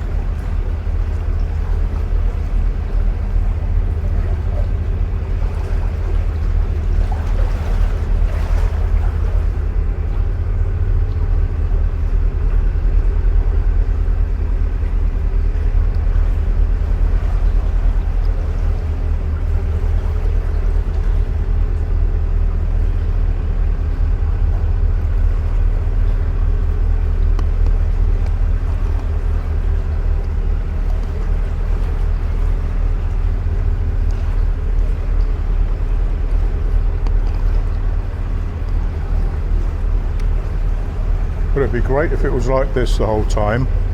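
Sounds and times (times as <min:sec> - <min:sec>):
boat diesel engine throbbing: 0:00.0 - 0:43.9.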